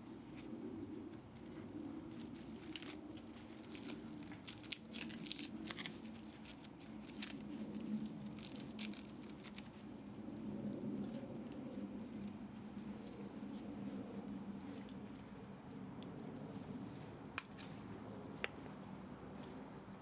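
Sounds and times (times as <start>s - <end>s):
clicks scrapes and crinkling: 0.3s - 19.6s.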